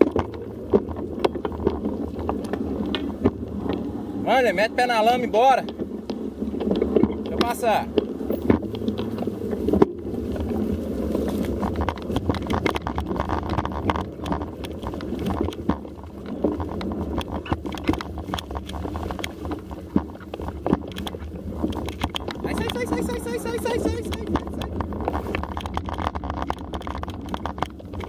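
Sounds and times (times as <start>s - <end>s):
bike knocks and rattles: 0.0s - 28.0s
bike tyres rumbling on mud: 0.0s - 28.0s.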